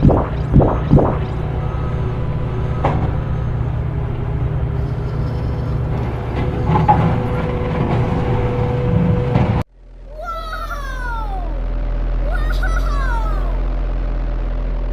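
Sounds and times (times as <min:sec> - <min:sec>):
heavy vehicle engine rumbling: 0:00.0 - 0:14.9
thin steady whine: 0:00.0 - 0:14.9.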